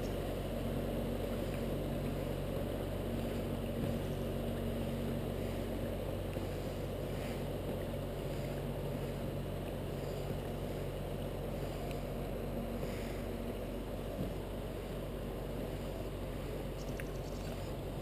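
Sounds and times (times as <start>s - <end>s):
boat motor humming: 0.0s - 18.0s.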